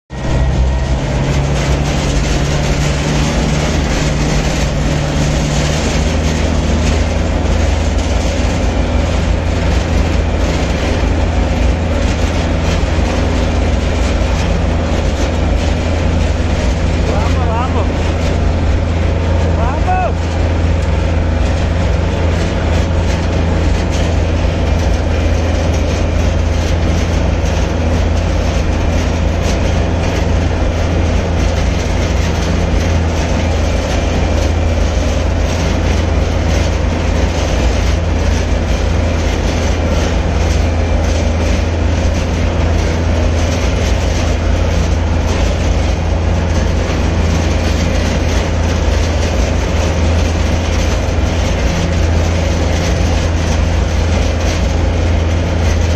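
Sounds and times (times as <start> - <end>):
tractor diesel engine droning: 0.0 - 55.9.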